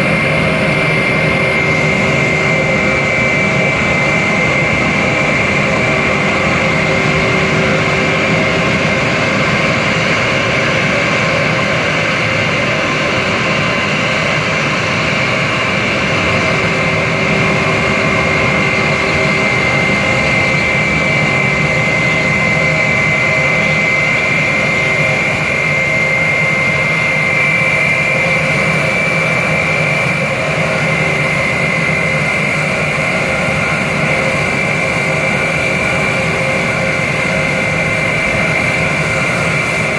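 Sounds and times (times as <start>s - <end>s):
jet engines idling whine: 0.0s - 39.9s.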